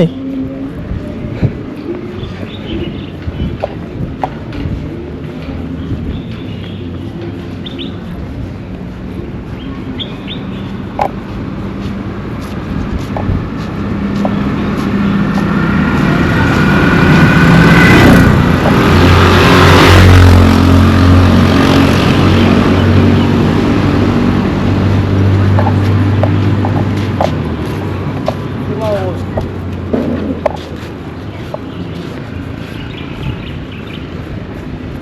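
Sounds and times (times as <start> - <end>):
vehicle passing by: 0.0 - 35.0.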